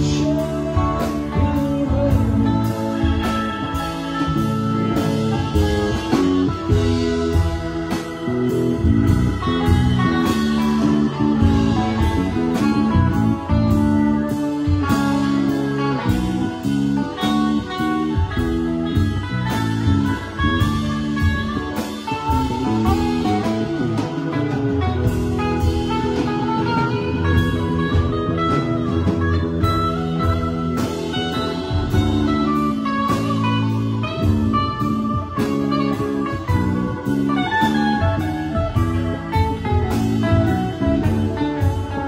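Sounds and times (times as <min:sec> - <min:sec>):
bass guitar: 0:00.0 - 0:42.0
drum kit beat: 0:00.0 - 0:42.0
electric guitar lead line: 0:00.0 - 0:42.0
keyboards: 0:00.0 - 0:42.0.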